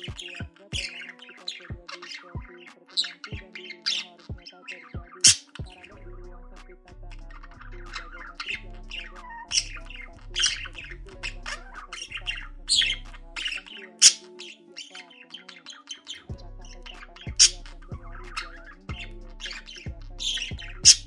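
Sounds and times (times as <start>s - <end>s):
background music with low beat: 0.0s - 14.6s, 16.2s - 21.0s.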